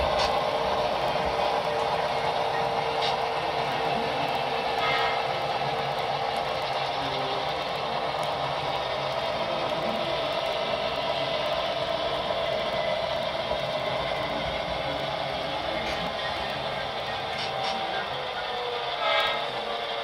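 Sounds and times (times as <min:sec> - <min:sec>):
model train rolling on track: 0:00.0 - 0:20.0.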